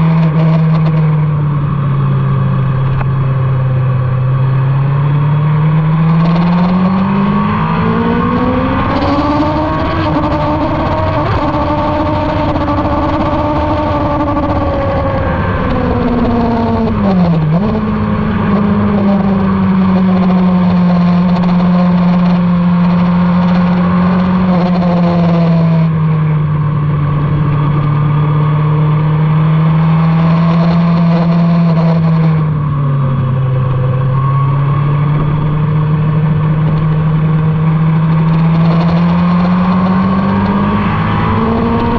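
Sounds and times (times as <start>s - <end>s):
motorcycle engine running hard: 0.0s - 41.9s.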